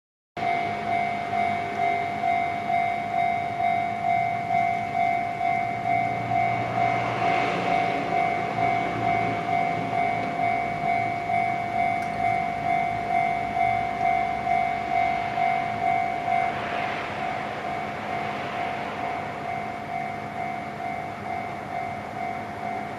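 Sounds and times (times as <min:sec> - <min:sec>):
electronic crossing bell alarm: 0:00.4 - 0:22.9
rushing noise: 0:00.4 - 0:22.9.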